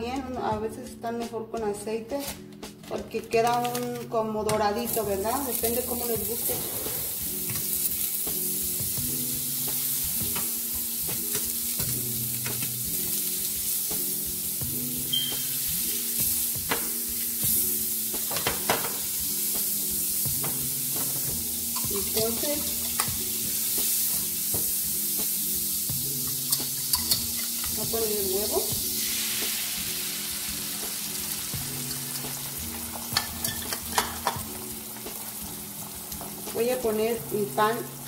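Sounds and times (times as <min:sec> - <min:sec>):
soft background music: 0:00.0 - 0:38.0
butter sizzling in frying pan: 0:04.8 - 0:38.0.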